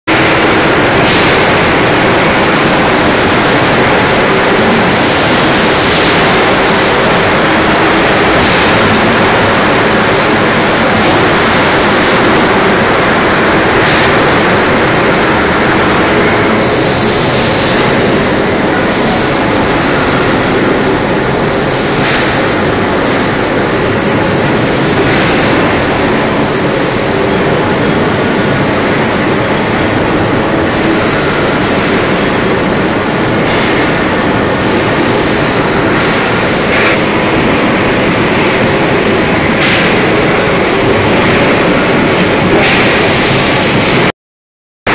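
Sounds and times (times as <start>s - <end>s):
forging press mechanical noise: 0.1s - 44.1s.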